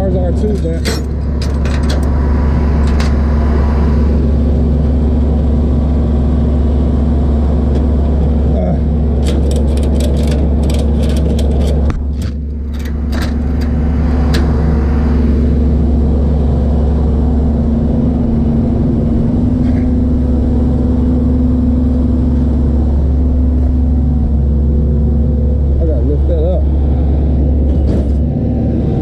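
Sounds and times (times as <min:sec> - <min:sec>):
truck engine and road drone: 0:00.0 - 0:29.0.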